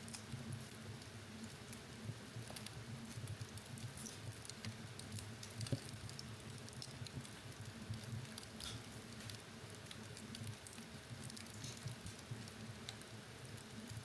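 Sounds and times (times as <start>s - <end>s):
fire crackling and popping: 0.0s - 14.0s
low steady hum: 0.0s - 14.0s.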